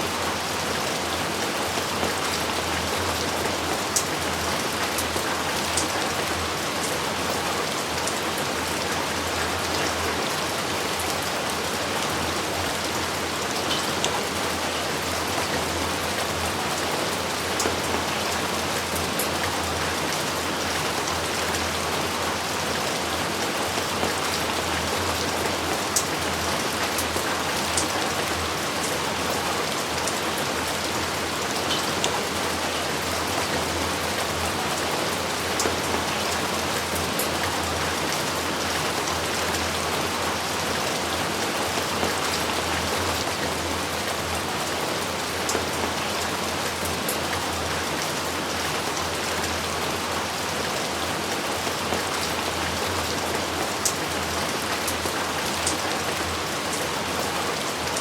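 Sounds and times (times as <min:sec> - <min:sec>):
heavy rain falling: 0:00.0 - 0:58.0
raindrops ticking close by: 0:00.2 - 0:47.8.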